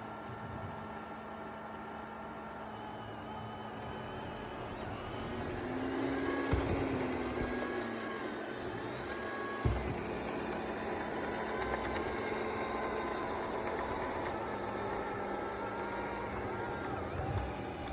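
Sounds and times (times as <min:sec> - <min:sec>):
robot vacuum motor and brush whir: 0:01.9 - 0:17.9.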